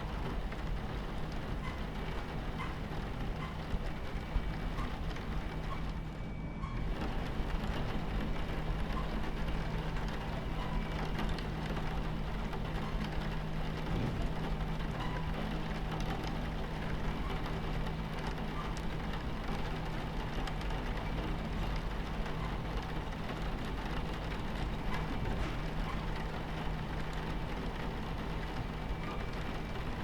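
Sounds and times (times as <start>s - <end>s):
moving train rumble: 0.0s - 30.0s
rain pattering on window: 0.0s - 30.0s.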